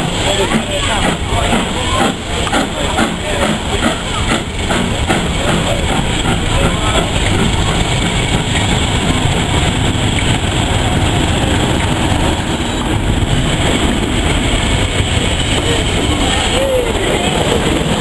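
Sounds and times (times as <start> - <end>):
train coaches rumbling and rattling: 0.0 - 18.0.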